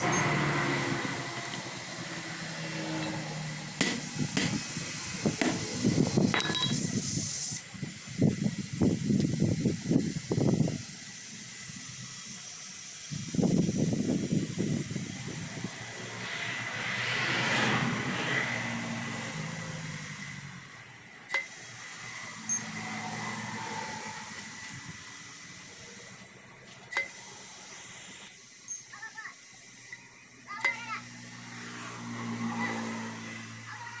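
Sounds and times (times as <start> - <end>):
compressed air hissing: 0.0 - 34.0.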